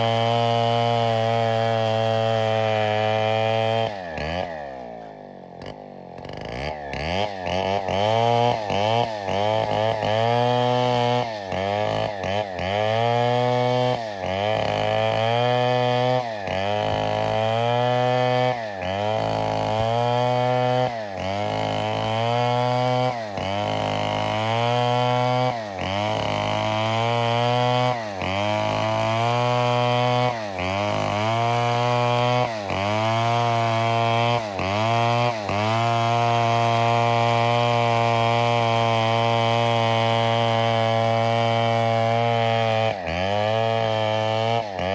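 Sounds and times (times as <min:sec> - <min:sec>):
chainsaw running at high revs: 0:00.0 - 0:44.9.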